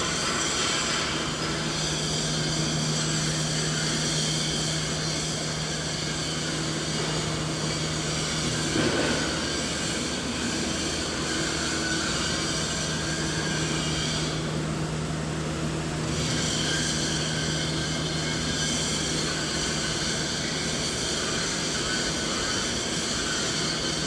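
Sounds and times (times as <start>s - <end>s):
machinery rumble and hiss: 0.0s - 24.0s.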